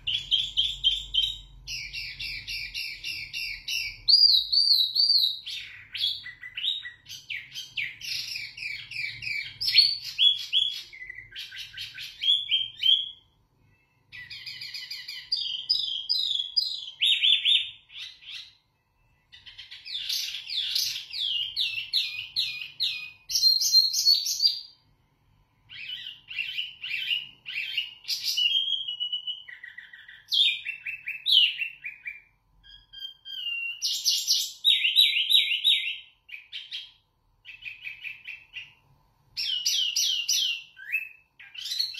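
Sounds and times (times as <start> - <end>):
songbird singing chirps and trills: 0.0 - 41.9.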